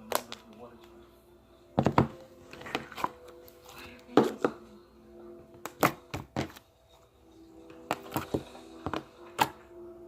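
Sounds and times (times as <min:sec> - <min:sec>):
faint television music: 0:00.0 - 0:10.0.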